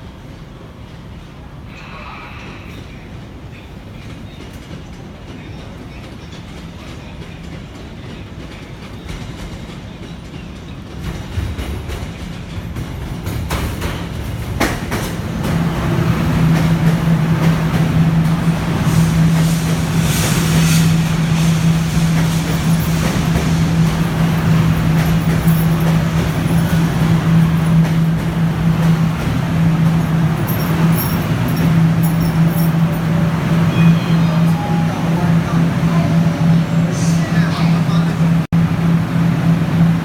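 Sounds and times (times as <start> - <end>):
metro train running: 0.0 - 40.0.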